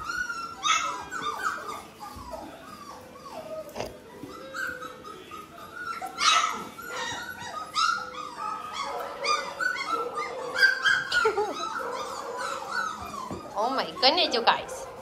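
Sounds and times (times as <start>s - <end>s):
puppies crying: 0.0s - 15.0s.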